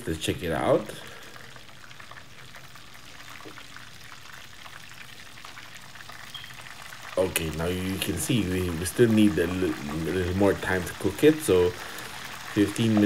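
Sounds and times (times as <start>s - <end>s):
chicken sizzling in hot oil: 0.2s - 13.0s.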